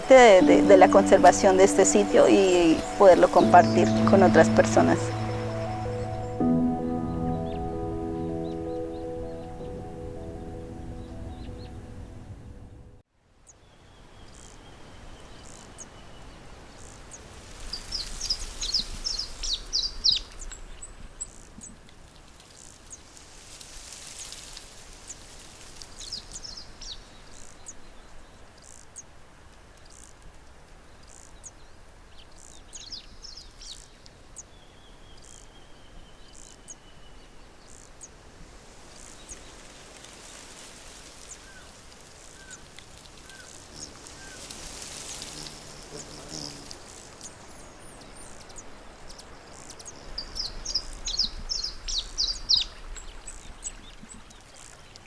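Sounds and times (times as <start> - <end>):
steady background hiss: 0.0 - 12.9, 13.6 - 53.7.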